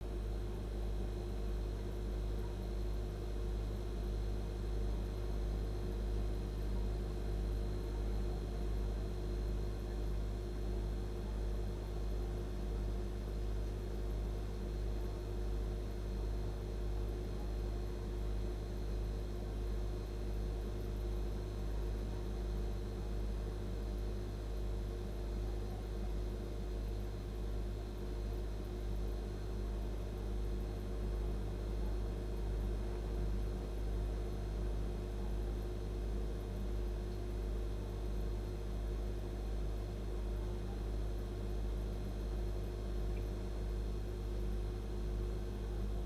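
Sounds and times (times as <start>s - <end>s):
refrigeration compressor droning: 0.0s - 46.0s.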